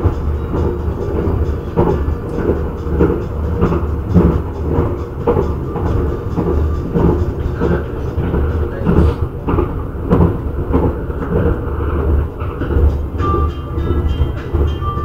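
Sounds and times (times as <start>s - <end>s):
train rumbling with regular knocking: 0.0s - 15.0s.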